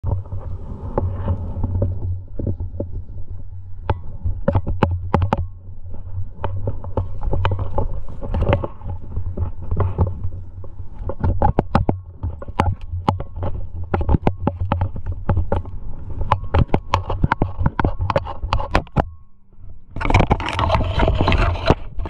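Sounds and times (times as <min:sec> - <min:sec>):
low rumble on microphone: 0:00.0 - 0:22.0.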